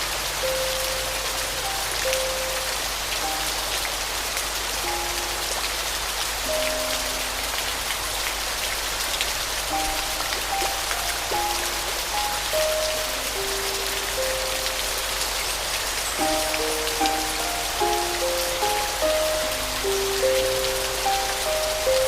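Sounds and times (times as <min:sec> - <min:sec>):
soft piano notes: 0:00.0 - 0:22.0
steady rain falling: 0:00.0 - 0:22.0.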